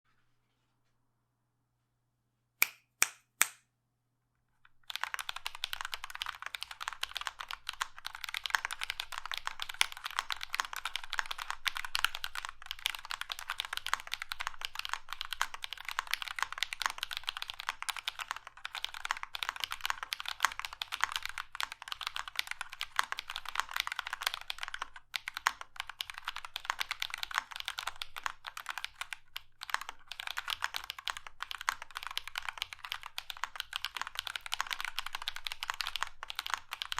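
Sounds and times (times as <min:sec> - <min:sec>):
fast typing on mechanical keyboard: 0:04.8 - 0:36.9.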